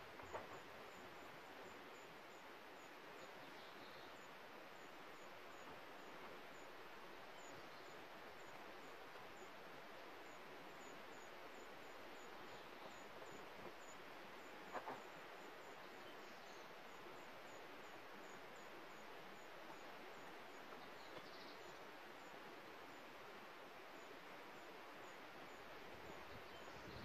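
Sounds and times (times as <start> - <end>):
faint outdoor hiss: 0.0 - 27.0.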